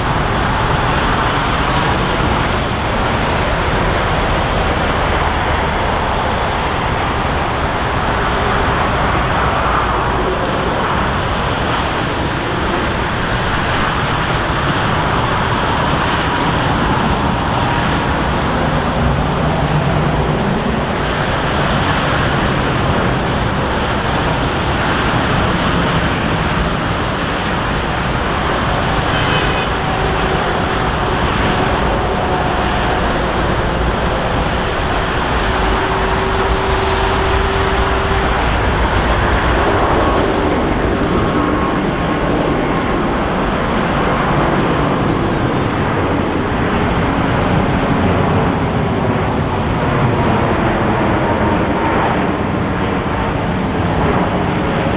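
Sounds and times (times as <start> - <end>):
jet engines rushing: 0.0 - 54.9.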